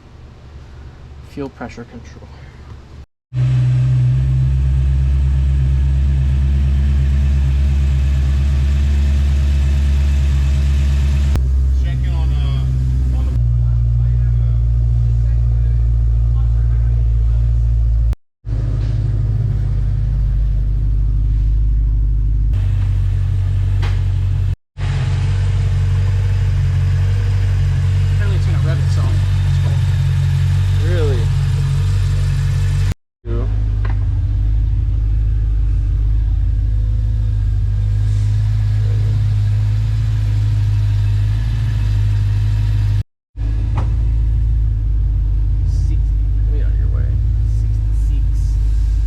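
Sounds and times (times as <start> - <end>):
car engine idling: 3.4 - 49.0.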